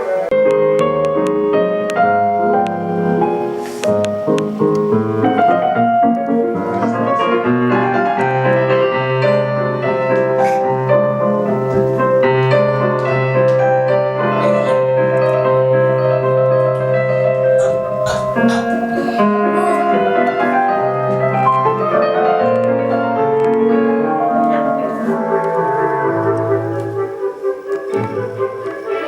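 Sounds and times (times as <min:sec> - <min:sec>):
piano melody over chords: 0:00.0 - 0:29.0.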